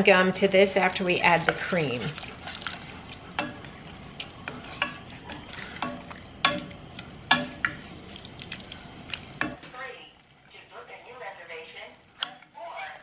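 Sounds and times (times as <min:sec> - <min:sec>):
broth simmering: 0:00.0 - 0:12.7.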